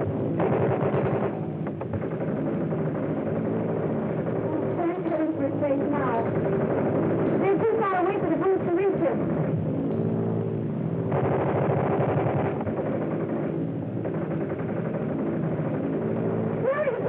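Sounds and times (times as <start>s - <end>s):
propeller airplane engine droning: 0.0s - 17.0s.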